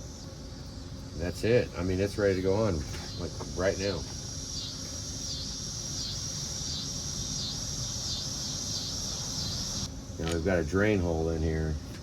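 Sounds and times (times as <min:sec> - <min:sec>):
high-pitched insect trill: 0:00.0 - 0:11.7
low background hum: 0:00.0 - 0:12.0.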